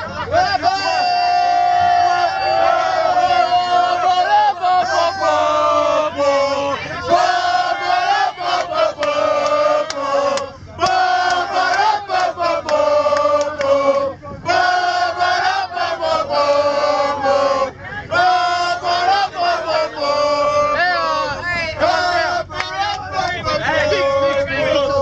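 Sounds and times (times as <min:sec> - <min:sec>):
crowd chanting and singing: 0:00.0 - 0:25.0.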